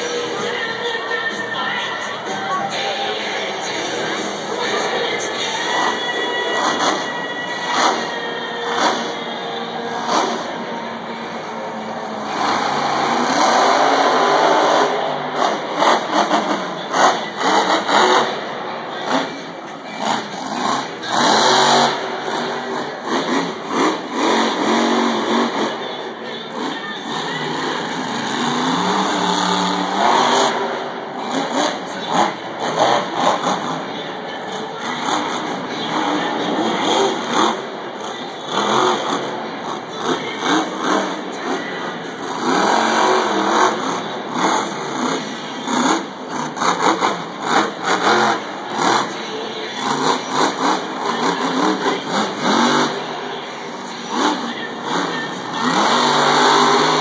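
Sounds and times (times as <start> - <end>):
stadium crowd roaring: 0.0 - 57.0
truck engines revving hard: 0.0 - 57.0.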